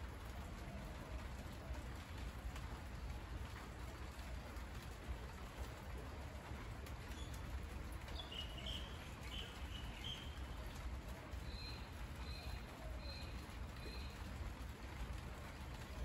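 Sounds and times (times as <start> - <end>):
rain falling on leaves: 0.0 - 16.0.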